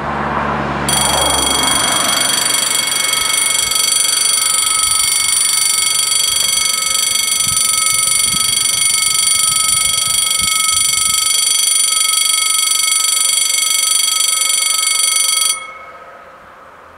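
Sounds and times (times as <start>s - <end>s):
level crossing warning bells ringing: 0.9s - 16.6s.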